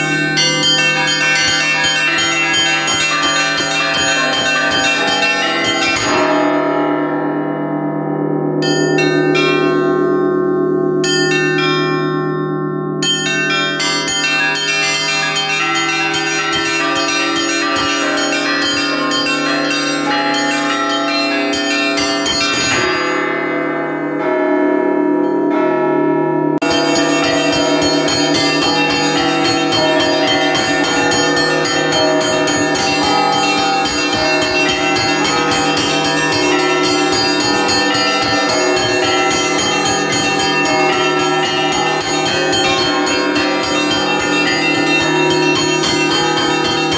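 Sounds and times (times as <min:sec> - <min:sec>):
large church bells ringing: 0:00.0 - 0:46.9
small church bells chiming rapidly: 0:00.0 - 0:46.9.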